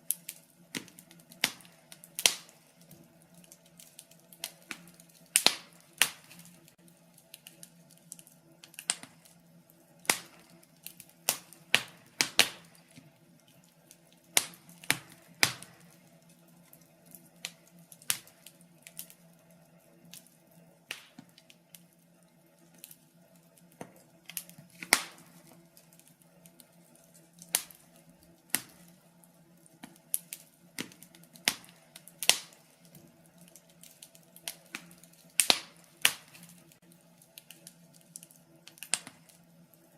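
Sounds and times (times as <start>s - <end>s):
faint steady hum: 0.0s - 39.9s
logs crackling in a fireplace: 0.0s - 39.9s.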